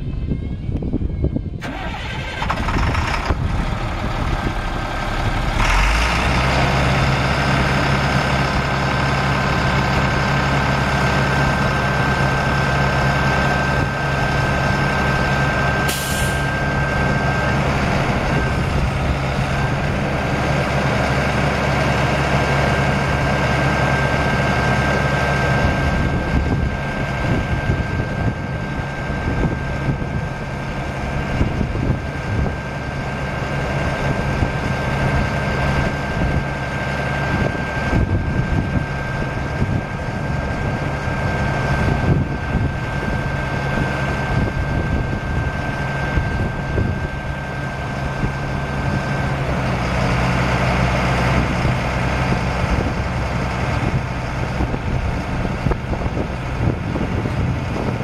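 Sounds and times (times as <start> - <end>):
diesel engine running: 0.0 - 58.0
steady high whine: 0.0 - 58.0.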